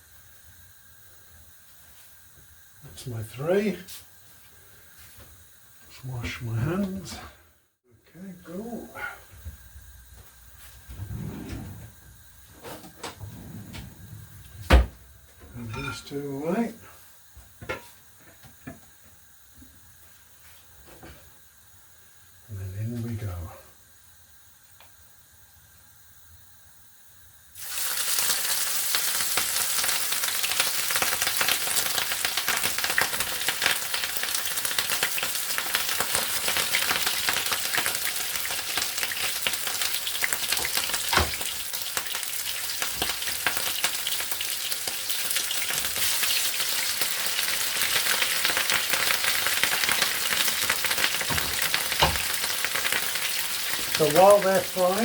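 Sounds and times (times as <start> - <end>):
sausages sizzling in a pan: 0.0 - 10.9, 15.1 - 55.0.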